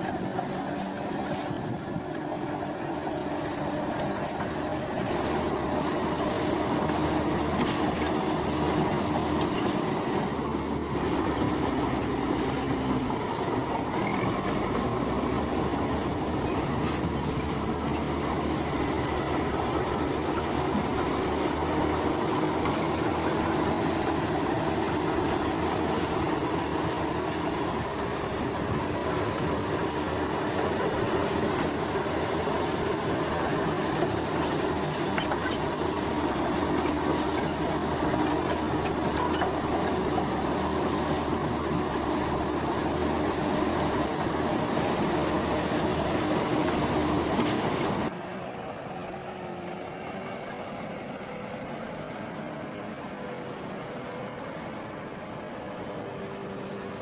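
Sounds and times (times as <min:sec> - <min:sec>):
steel tracks clattering and squealing: 0:00.0 - 0:48.1
diesel engine running: 0:00.0 - 0:57.0.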